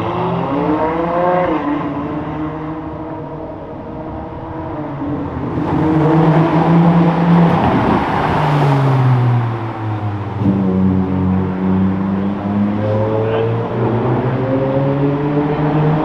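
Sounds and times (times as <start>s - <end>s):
car engine passing by: 0.0s - 16.0s.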